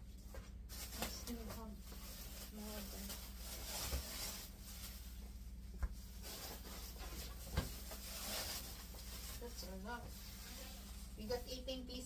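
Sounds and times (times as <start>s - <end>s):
plastic bag rustling: 0.5s - 12.0s.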